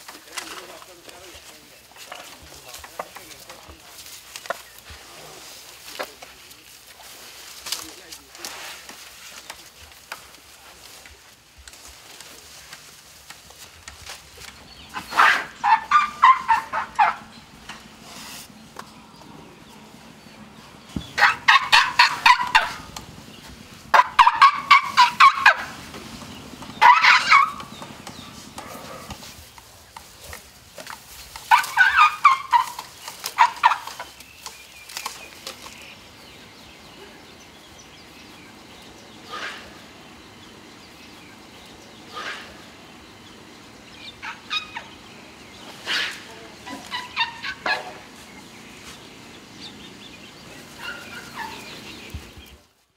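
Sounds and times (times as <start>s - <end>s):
elephant calves chirping: 0.0s - 52.8s.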